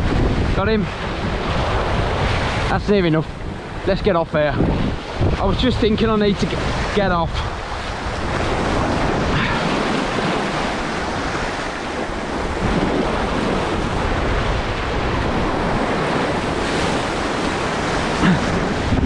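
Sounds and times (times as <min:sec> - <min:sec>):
waves breaking over rocks: 0:00.0 - 0:19.0
wind buffeting microphone: 0:00.0 - 0:19.0.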